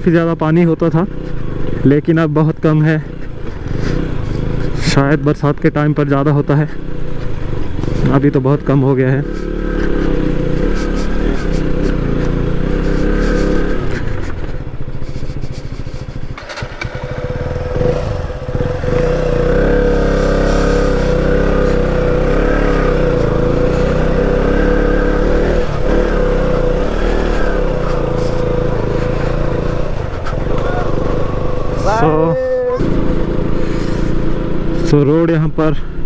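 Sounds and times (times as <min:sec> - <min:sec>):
motorcycle engine revving: 0:03.0 - 0:35.2.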